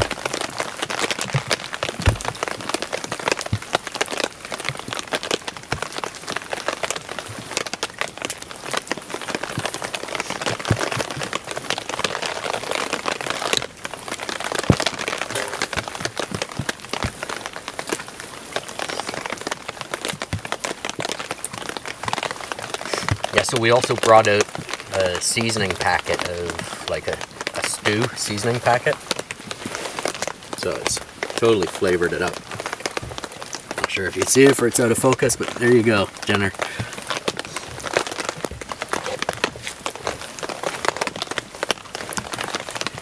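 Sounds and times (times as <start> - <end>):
rain pattering on a tarp: 0.0 - 43.0.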